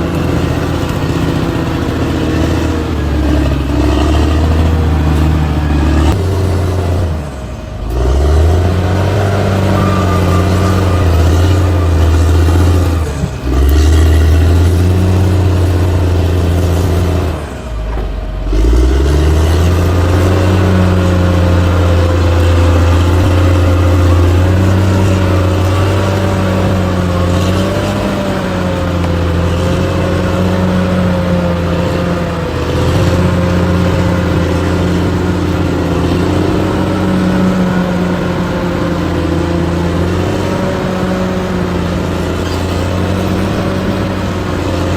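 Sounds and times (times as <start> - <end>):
heavy diesel engine under load: 0.0 - 44.9
high wavering whine: 0.0 - 44.9.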